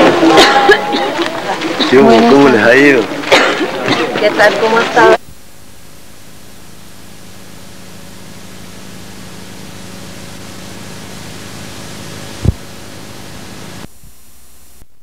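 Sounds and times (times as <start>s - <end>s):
low hum: 0.0s - 14.8s
videotape hiss: 0.0s - 15.0s.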